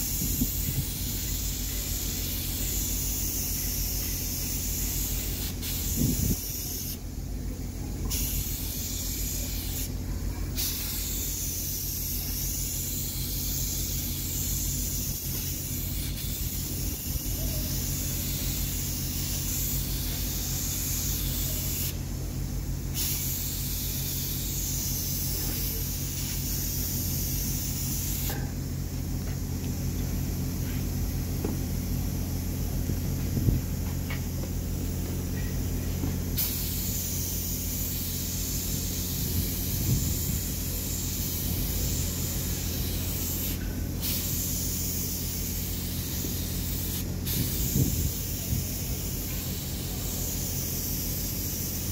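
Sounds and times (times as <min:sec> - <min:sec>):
spray gun hissing: 0:00.0 - 0:07.1, 0:08.0 - 0:51.9
steady low hum: 0:00.0 - 0:51.9.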